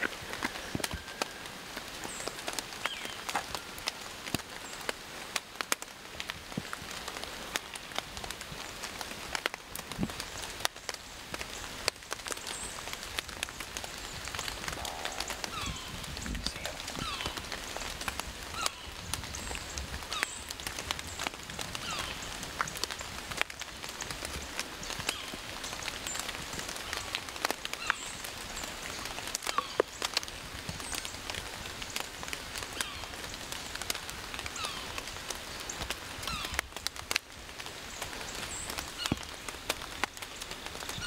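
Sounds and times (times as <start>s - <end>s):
rain dripping on dead leaves: 0.0s - 41.0s.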